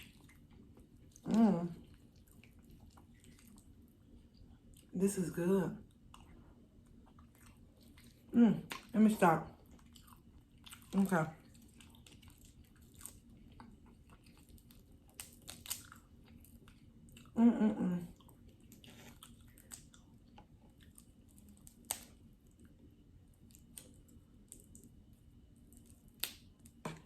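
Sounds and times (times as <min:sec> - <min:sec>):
person chewing and eating: 0:00.0 - 0:05.0, 0:05.9 - 0:27.0.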